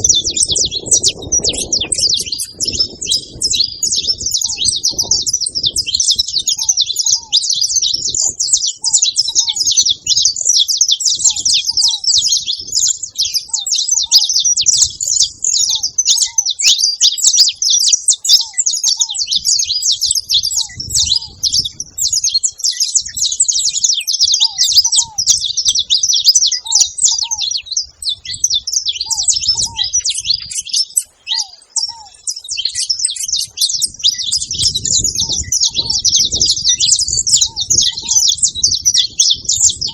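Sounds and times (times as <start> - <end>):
finches chattering and singing: 0.0 - 39.9.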